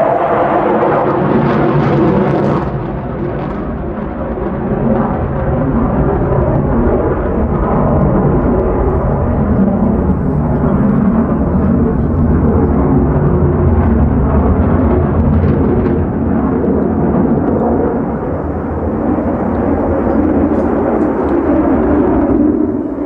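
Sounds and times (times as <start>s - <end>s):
jet engine rumble: 0.0s - 23.0s.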